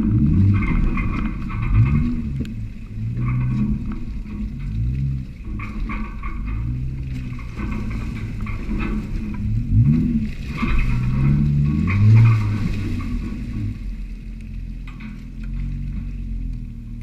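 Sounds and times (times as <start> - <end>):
knocks and rattles: 0.0 - 17.0
off-road engine revving: 0.0 - 17.0.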